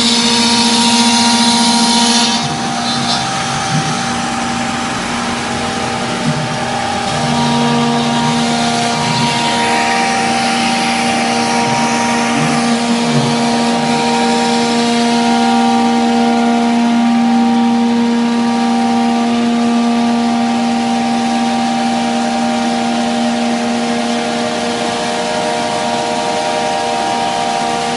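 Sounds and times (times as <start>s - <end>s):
router spindle whining: 0.0s - 27.9s.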